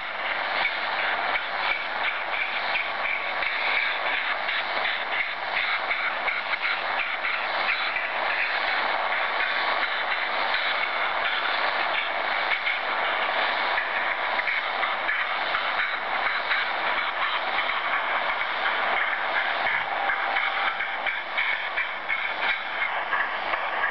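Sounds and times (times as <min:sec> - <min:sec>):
radio hiss with fast flutter: 0:00.0 - 0:23.9.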